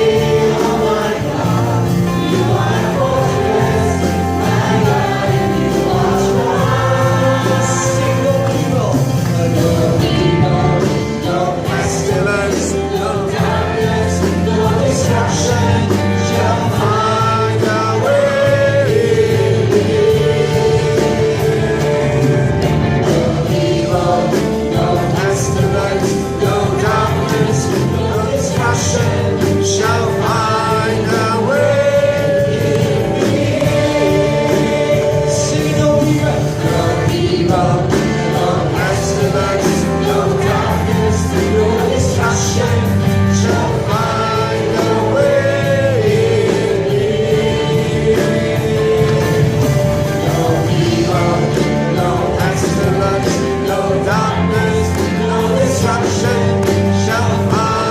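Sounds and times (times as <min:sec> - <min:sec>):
gospel singers with band: 0:00.0 - 0:57.9.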